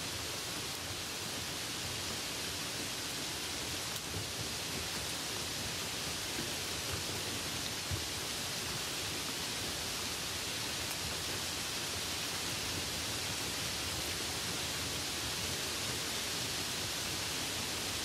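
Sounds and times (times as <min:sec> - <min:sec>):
light rain hissing: 0:00.0 - 0:18.0.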